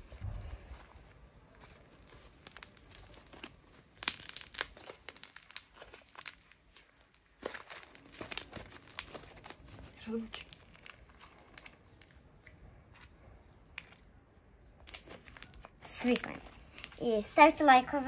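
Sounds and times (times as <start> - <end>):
slime popping and crackling: 0.0 - 17.1.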